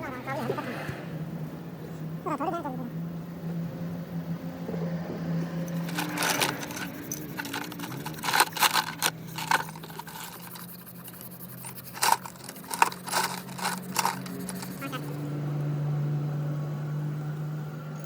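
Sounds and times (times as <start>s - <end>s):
steady low hum: 0.0s - 16.1s.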